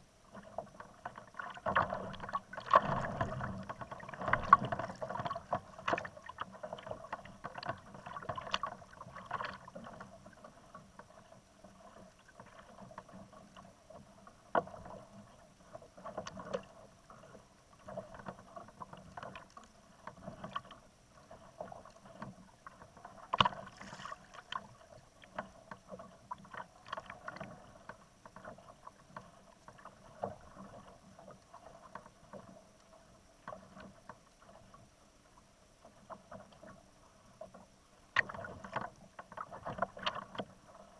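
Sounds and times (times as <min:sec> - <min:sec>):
small waves lapping against kayak: 0:00.0 - 0:40.9
knocks and clicks on hull: 0:00.3 - 0:34.9, 0:35.8 - 0:40.9.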